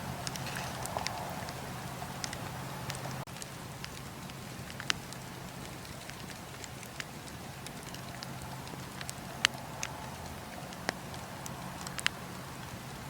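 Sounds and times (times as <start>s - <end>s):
campfire hiss: 0.0s - 13.0s
wood crackling and popping: 0.0s - 13.0s.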